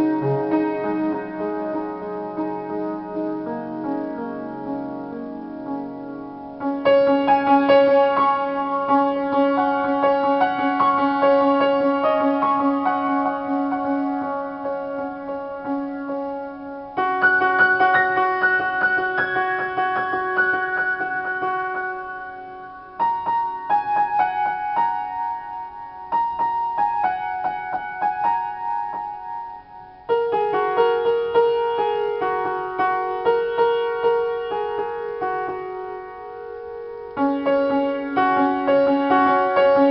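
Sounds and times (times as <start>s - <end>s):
upright piano improvisation: 0.0s - 39.9s.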